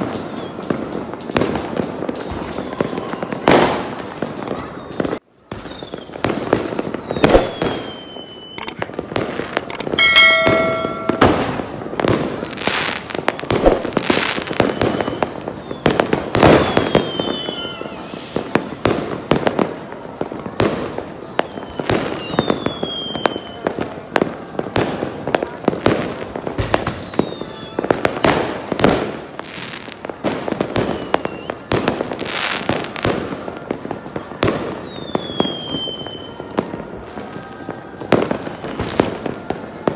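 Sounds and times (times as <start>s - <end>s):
falling firework whistles: 0.0s - 39.9s
fireworks bangs: 0.0s - 39.9s.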